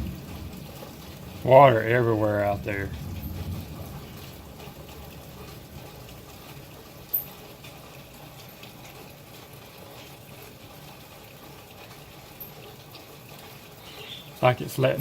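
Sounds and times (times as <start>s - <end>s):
heavy rain falling: 0.0s - 15.0s
water running: 0.0s - 15.0s.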